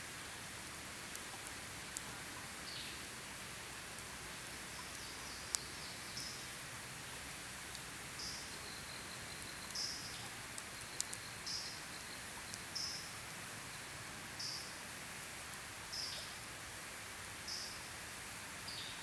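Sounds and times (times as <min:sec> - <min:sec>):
campfire crackling: 0:00.1 - 0:18.7.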